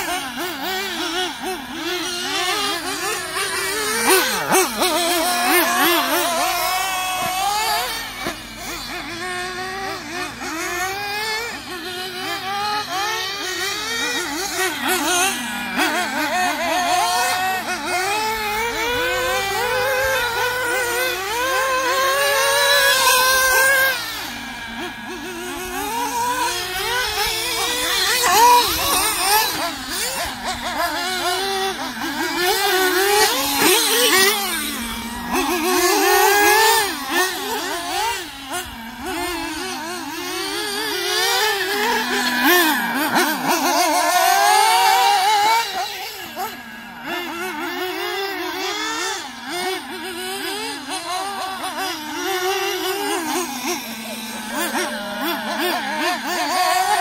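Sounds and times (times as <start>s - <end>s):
model car engines revving: 0.0s - 57.0s.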